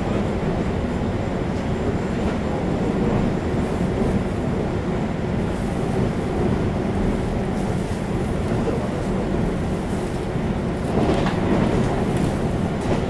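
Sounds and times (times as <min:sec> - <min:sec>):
train rumble from inside carriage: 0:00.0 - 0:13.0.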